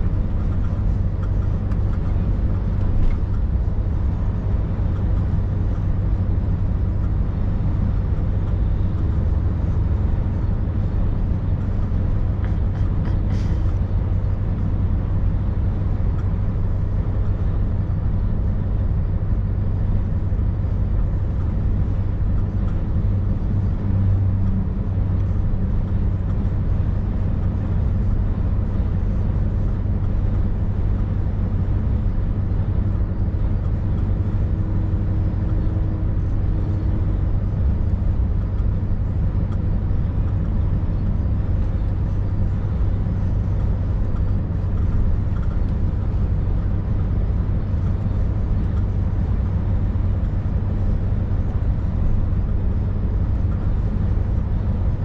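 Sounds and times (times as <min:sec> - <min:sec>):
road noise: 0:00.0 - 0:55.0
truck diesel engine hum: 0:00.0 - 0:55.0.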